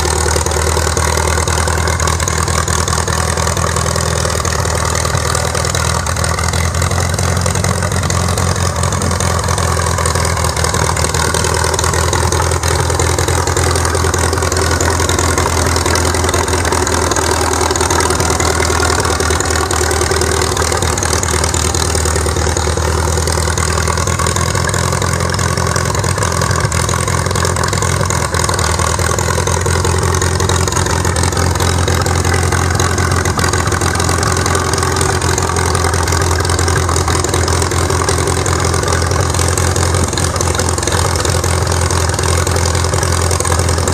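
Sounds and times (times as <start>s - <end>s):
tractor engine idling: 0.0s - 43.9s.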